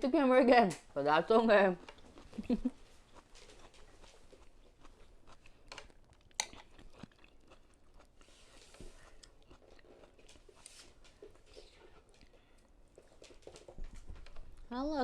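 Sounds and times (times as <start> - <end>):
person chewing: 1.8 - 14.7.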